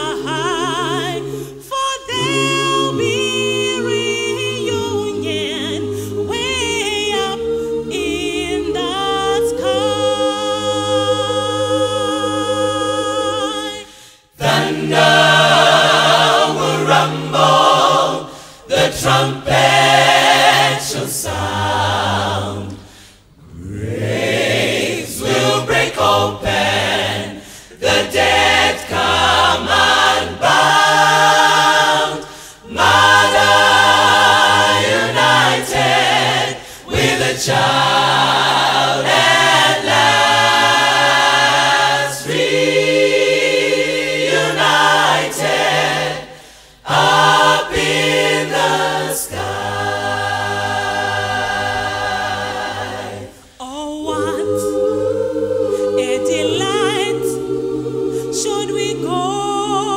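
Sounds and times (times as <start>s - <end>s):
gospel choir singing a cappella: 0.0s - 59.9s.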